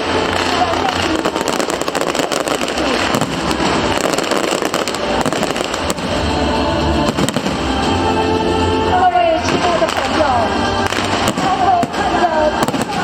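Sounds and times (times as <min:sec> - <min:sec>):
fireworks bursting and crackling: 0:00.0 - 0:08.1, 0:09.3 - 0:13.0.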